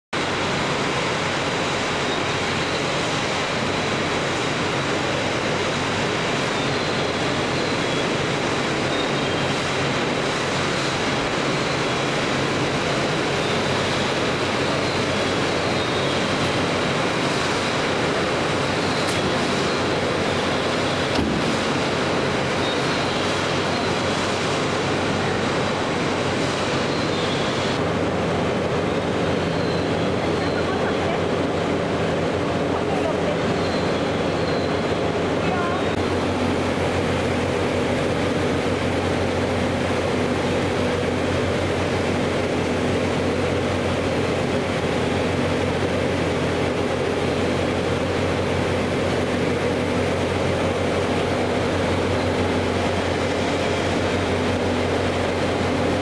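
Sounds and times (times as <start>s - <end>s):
train equipment hum and hiss: 0.2s - 56.0s.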